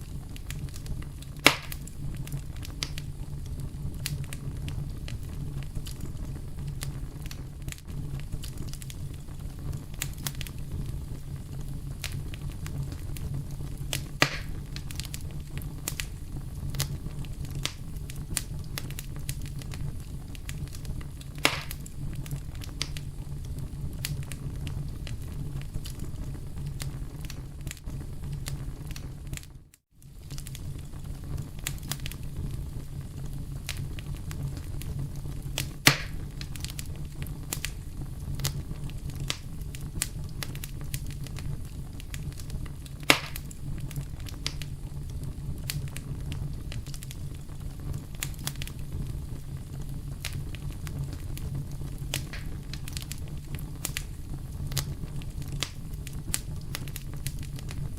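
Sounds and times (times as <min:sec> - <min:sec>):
sharp pops from fire: 0:00.0 - 0:57.9
wood fire crackling: 0:00.0 - 0:57.9.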